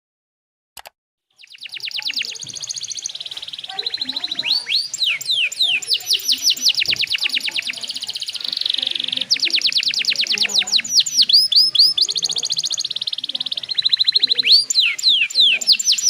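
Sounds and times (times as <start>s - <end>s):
canary singing: 1.4s - 16.0s.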